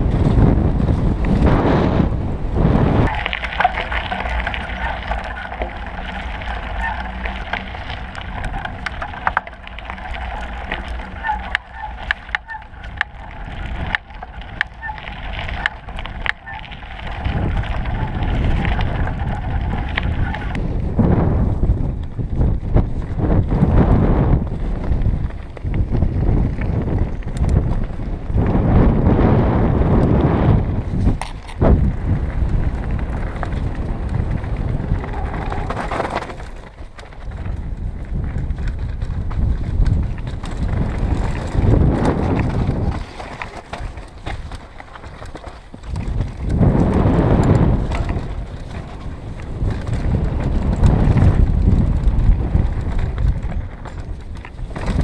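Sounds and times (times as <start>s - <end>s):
tyres rolling over gravel: 0.0s - 55.0s
wind buffeting microphone: 0.0s - 55.0s
bike parts rattling and clicking: 3.0s - 29.2s, 29.9s - 55.0s.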